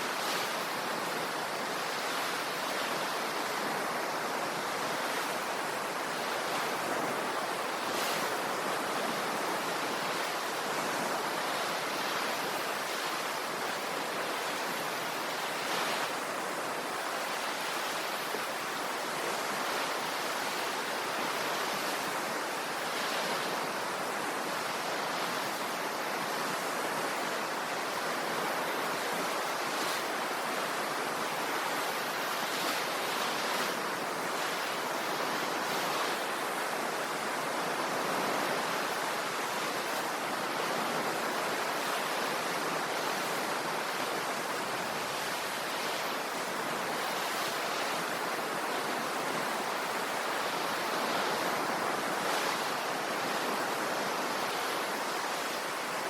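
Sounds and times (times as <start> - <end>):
ocean surf washing on shore: 0.0 - 56.0.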